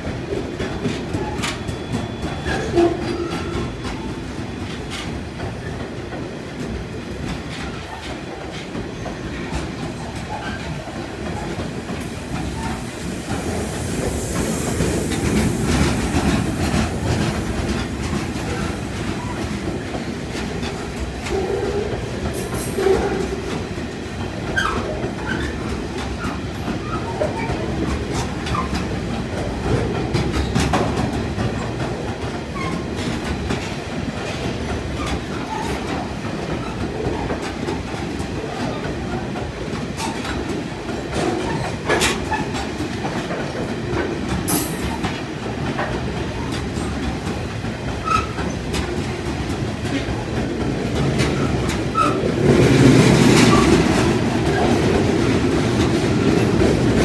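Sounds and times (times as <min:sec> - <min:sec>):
freight train clickety-clack: 0:00.0 - 0:57.0.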